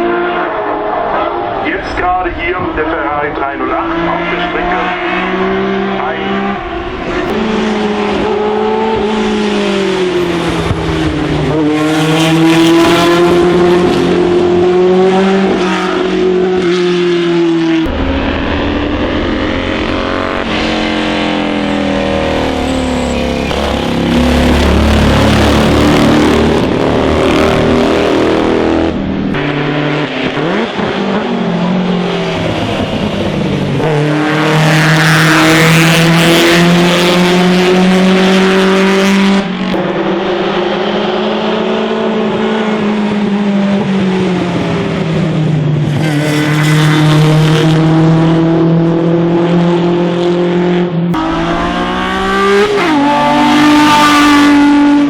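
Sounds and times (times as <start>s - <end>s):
racing car engines at full throttle: 0.0s - 55.0s.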